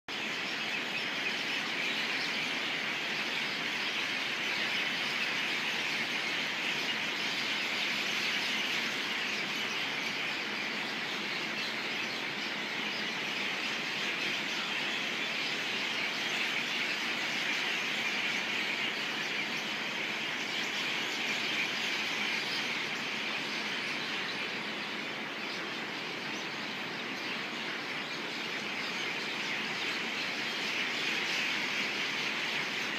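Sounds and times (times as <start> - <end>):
flock of birds chirping: 0.1 - 32.9.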